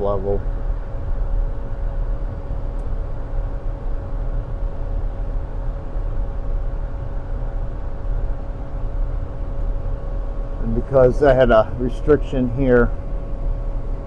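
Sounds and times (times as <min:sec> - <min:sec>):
hvac equipment humming: 0:00.0 - 0:14.0.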